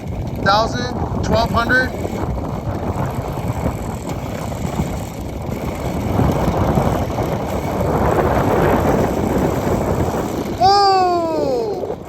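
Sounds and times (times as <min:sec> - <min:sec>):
wind buffeting microphone: 0:00.0 - 0:12.0
wind-spun fan spinning: 0:00.0 - 0:12.0.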